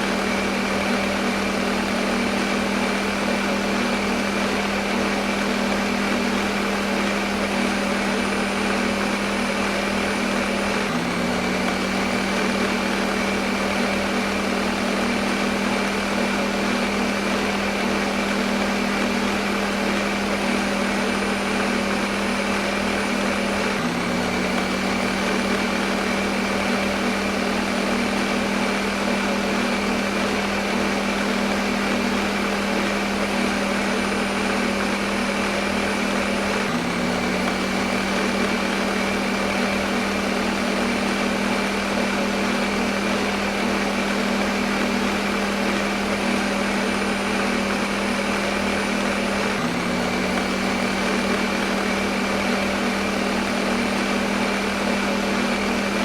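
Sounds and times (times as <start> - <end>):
blender motor whirring: 0.0 - 56.0.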